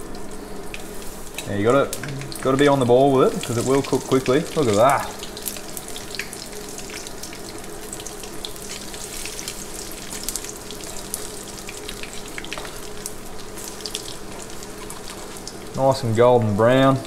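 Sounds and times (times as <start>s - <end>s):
fish sizzling in hot oil: 0.0s - 15.8s
stove exhaust fan humming: 0.0s - 17.0s.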